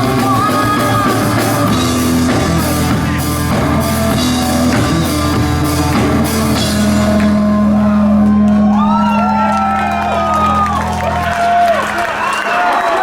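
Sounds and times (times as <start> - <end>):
rock band playing: 0.0 - 12.7.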